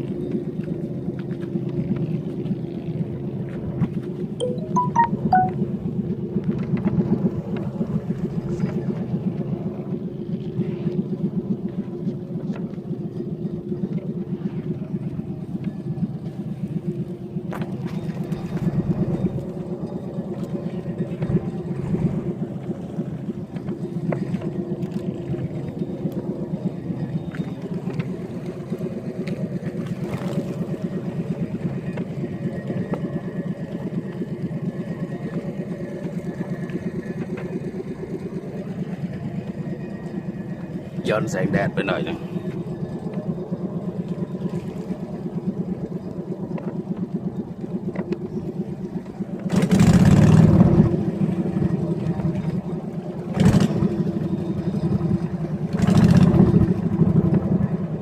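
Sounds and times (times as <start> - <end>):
boat engine throbbing: 0.0 - 58.0.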